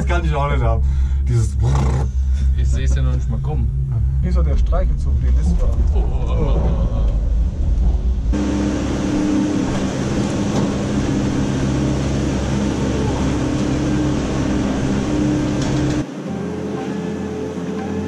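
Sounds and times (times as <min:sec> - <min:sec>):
vehicle running noise: 0:00.0 - 0:18.0.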